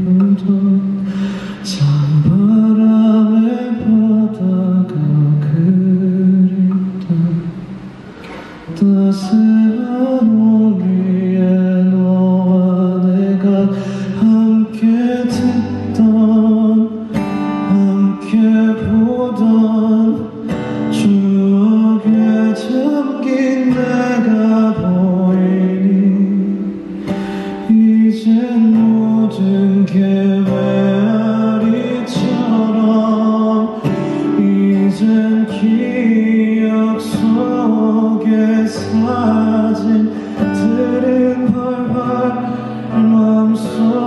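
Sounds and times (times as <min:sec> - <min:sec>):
acoustic guitar plucked: 0:00.0 - 0:44.0
man singing: 0:00.0 - 0:44.0.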